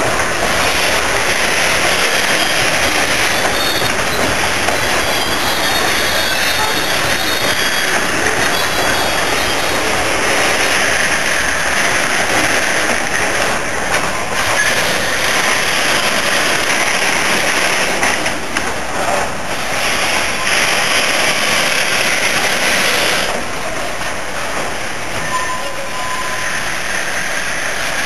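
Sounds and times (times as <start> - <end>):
freight train wheels on rails: 0.0 - 28.0.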